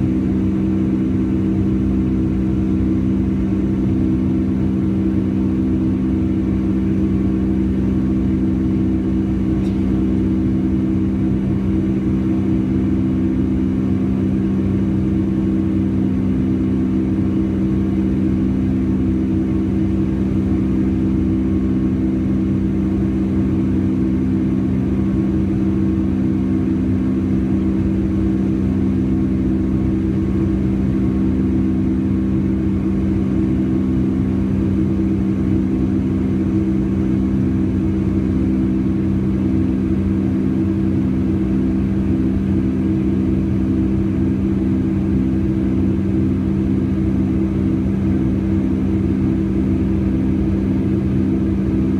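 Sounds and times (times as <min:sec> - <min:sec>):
jet engine cabin drone: 0:00.0 - 0:51.9.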